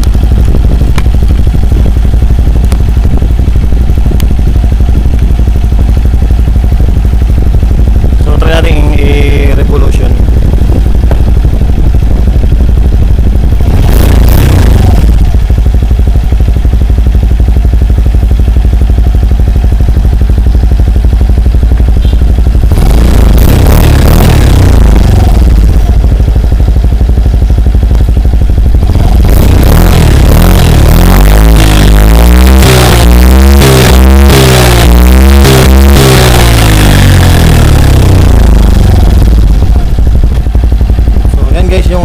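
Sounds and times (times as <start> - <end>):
scooter engine idling and revving: 0.0 - 42.0.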